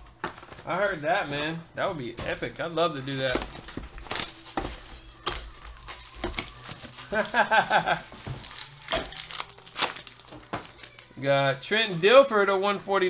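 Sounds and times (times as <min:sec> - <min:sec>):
cards being handled: 0:00.0 - 0:11.2
foil wrappers crinkling: 0:00.0 - 0:12.4.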